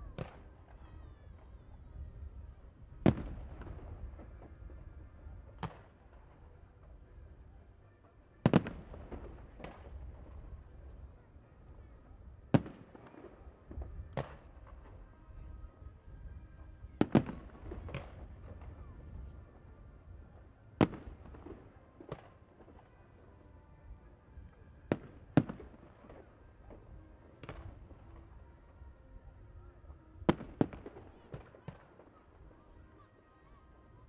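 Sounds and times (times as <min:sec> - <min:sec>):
fireworks bursting with bangs: 0:00.0 - 0:23.4, 0:24.4 - 0:29.5, 0:30.1 - 0:33.0.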